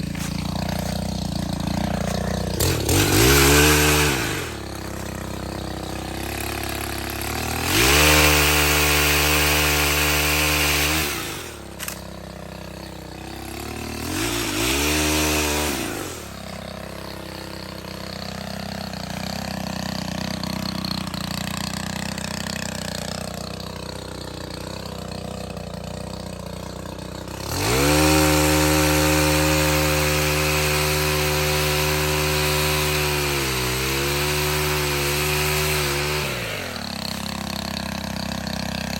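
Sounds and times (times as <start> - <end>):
pole saw engine revving: 0.0 - 38.9.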